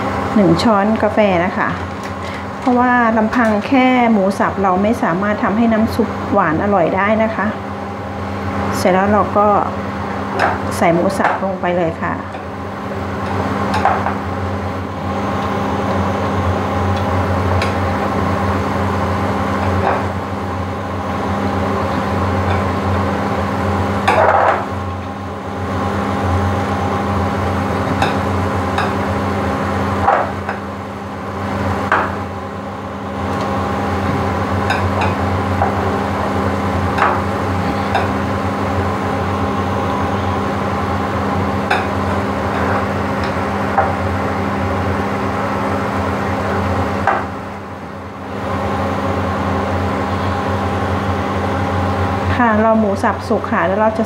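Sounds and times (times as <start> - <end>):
cooktop hum: 0.0 - 54.0
water boiling in a saucepan: 0.1 - 54.0.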